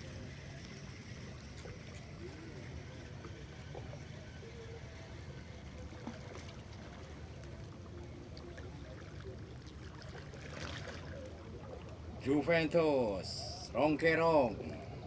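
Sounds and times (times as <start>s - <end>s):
water rumbling: 0.0s - 15.0s
wind: 0.0s - 15.0s.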